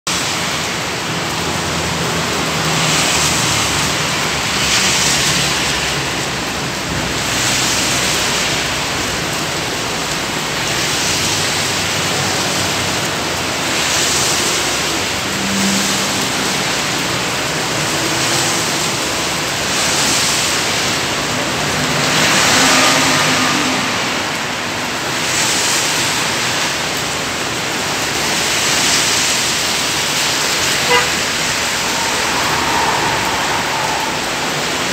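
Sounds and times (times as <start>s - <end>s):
heavy rain: 0.0s - 34.9s
vehicle engines running: 0.3s - 34.9s
wet tyres hissing past: 0.3s - 34.9s.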